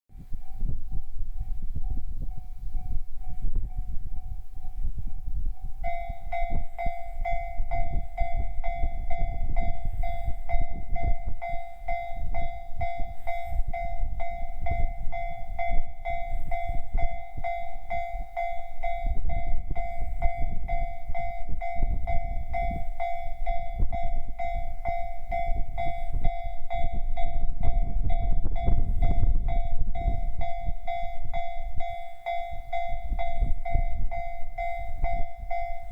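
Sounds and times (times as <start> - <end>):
steady low rumble: 0.1 - 35.9.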